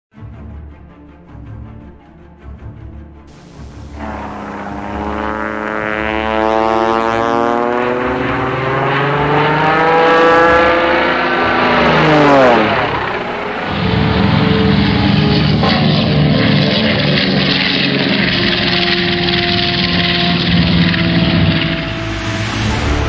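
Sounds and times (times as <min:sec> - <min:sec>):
propeller aircraft flying by: 0:00.7 - 0:23.0.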